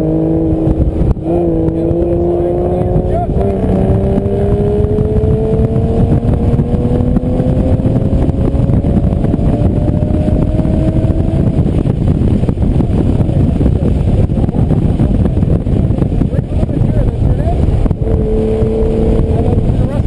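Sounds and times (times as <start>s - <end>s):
car engine accelerating hard: 0.0s - 20.0s
dense loud rush: 0.0s - 20.0s.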